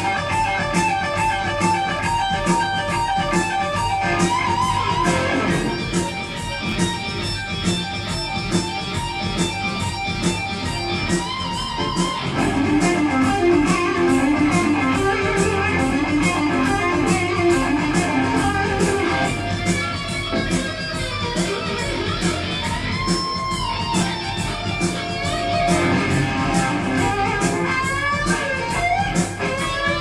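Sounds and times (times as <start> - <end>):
electric guitars: 0.0 - 30.0.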